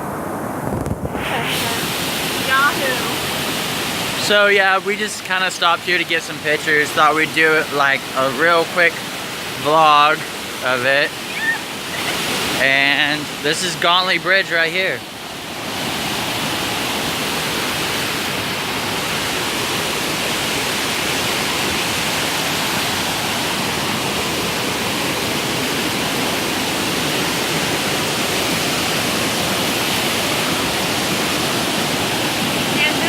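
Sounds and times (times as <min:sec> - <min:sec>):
waterfall rushing: 0:01.1 - 0:33.0.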